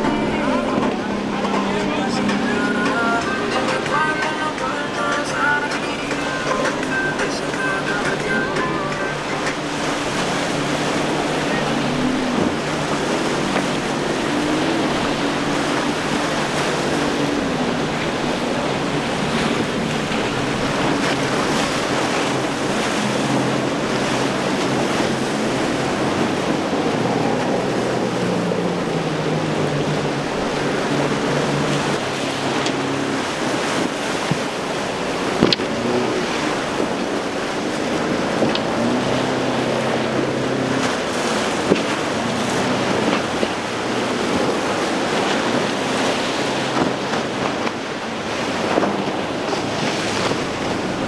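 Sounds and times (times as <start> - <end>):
boat motors droning: 0.0 - 51.0
waves breaking: 0.0 - 51.0
wind buffeting microphone: 6.5 - 51.0.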